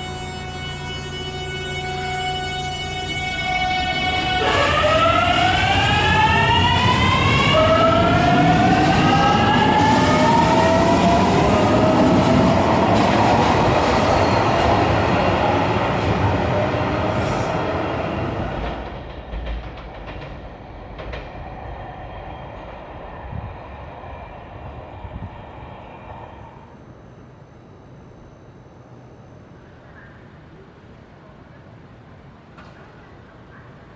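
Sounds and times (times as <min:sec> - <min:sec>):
train running noise: 0:00.0 - 0:33.9.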